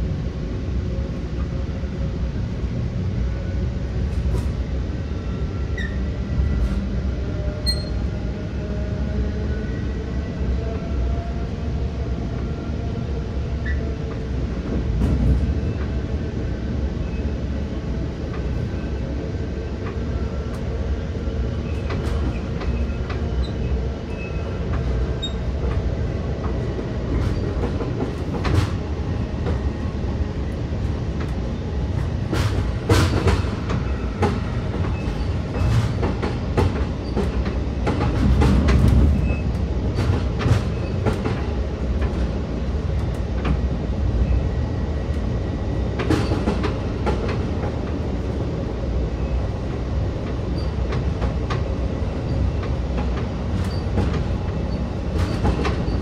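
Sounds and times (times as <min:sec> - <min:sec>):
train rumble inside coach: 0:00.0 - 0:56.0.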